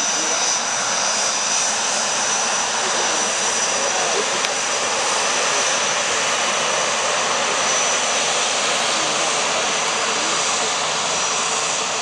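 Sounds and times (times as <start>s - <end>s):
jet engines taxiing: 0.0s - 12.0s.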